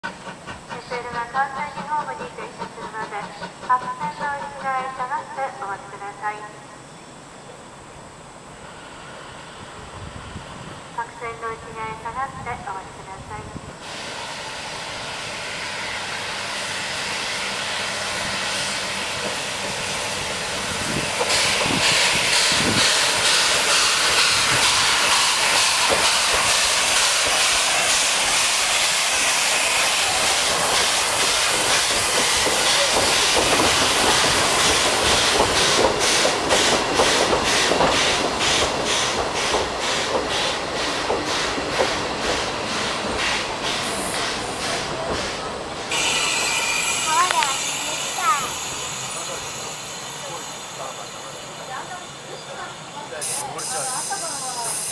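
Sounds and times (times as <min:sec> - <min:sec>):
train wheels clacking: 0:00.0 - 0:05.3, 0:15.2 - 0:54.9
steam locomotive hissing: 0:00.0 - 0:54.9.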